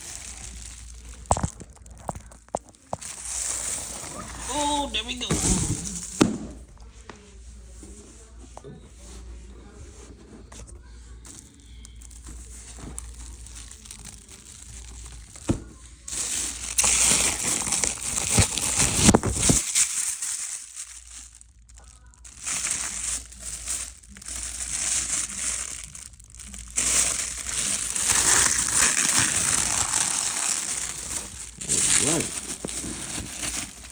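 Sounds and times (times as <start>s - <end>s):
crinkling packaging wrap: 0.0s - 6.6s, 10.9s - 33.9s.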